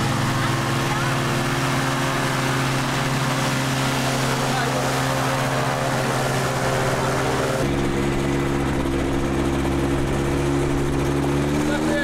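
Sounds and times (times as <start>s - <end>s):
small aircraft engine idling: 0.0s - 12.0s.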